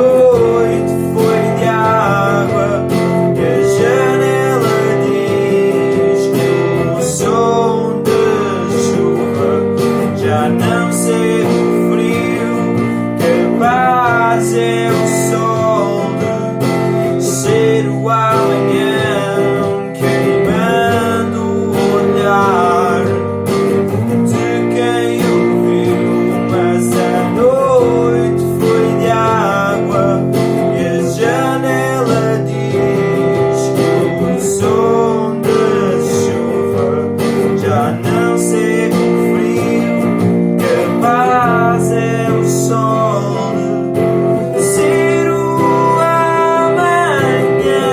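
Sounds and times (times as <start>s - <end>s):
acoustic guitar strumming chords: 0.0s - 47.9s.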